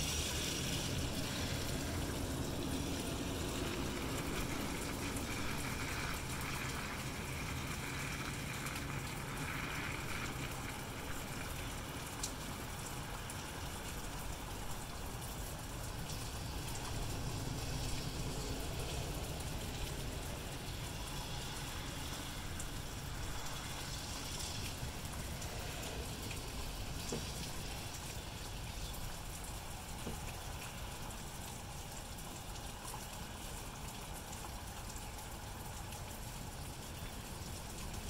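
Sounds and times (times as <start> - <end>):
car tyres swishing on wet road: 0.0 - 31.8
rain hiss: 0.0 - 38.0.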